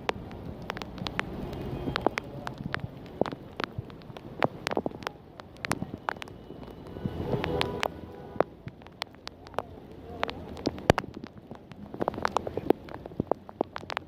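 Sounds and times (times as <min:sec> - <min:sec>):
heavy raindrops on hard surface: 0:00.0 - 0:14.0.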